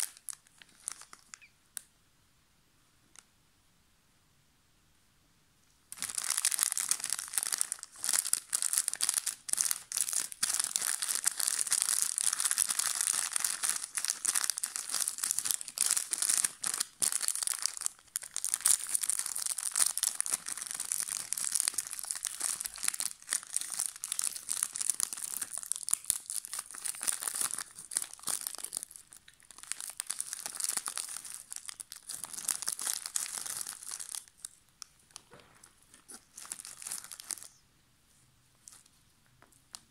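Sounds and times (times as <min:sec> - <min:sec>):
snack wrapper crinkling and tearing: 0:00.0 - 0:01.4, 0:06.0 - 0:37.6.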